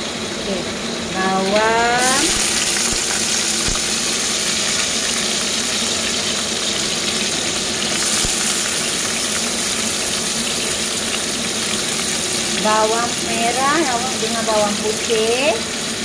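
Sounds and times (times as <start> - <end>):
shallots sizzling in oil: 0.0 - 16.0.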